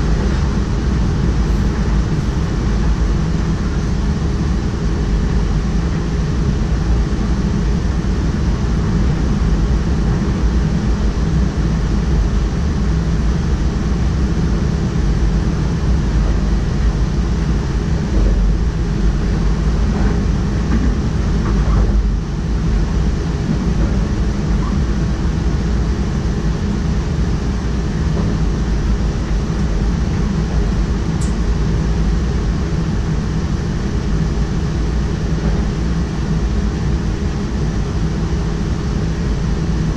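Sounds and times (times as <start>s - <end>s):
train wheels rumbling on rails: 0.0s - 37.4s.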